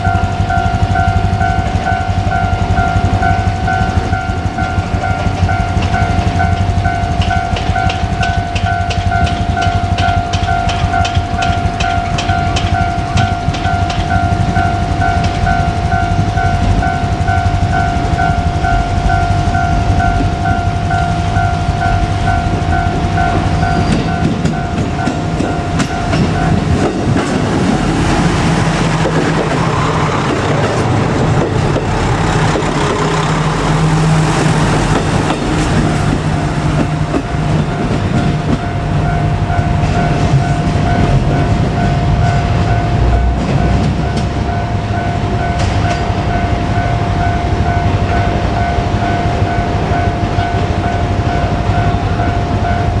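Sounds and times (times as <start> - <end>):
diesel engine humming: 0.0 - 53.0
level crossing bell dinging: 0.0 - 53.0
train wheels rattling on rails: 0.0 - 53.0.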